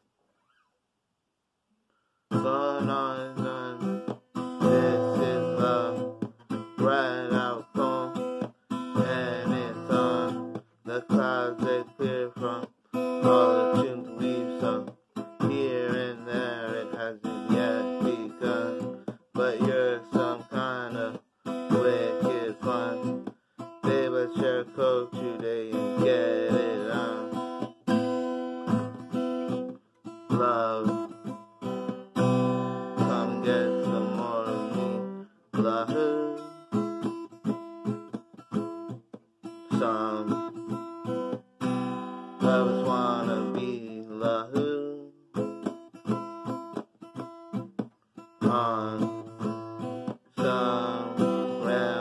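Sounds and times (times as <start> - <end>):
acoustic guitar strumming: 2.3 - 52.0.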